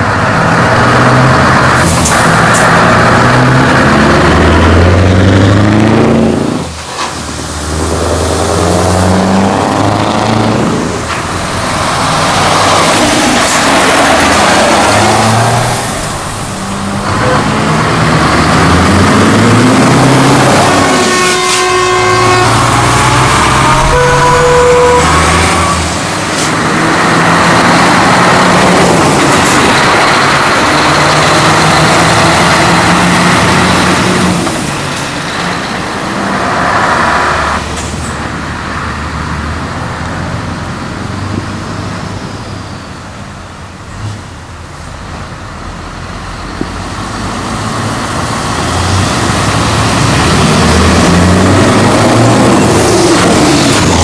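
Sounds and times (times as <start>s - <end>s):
diesel trucks driving past: 0.0s - 54.0s
traffic noise: 0.0s - 54.0s.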